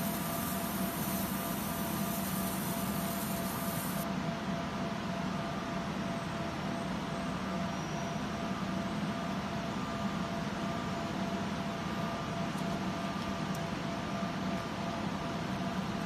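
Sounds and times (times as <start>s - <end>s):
faint constant whine: 0.0s - 16.0s
machine fan hum: 0.0s - 16.0s.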